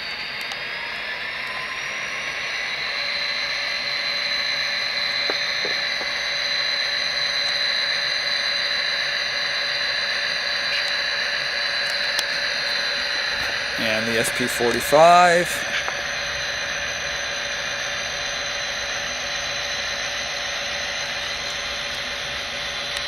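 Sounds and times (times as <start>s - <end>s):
model locomotive diesel sound: 0.0s - 23.0s
turbocharger whine: 0.0s - 23.0s.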